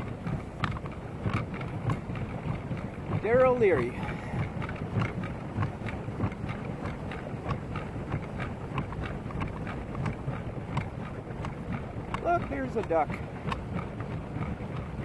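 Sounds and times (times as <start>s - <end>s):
light water splashes: 0.0s - 15.0s
wind rumbling on microphone: 0.0s - 15.0s.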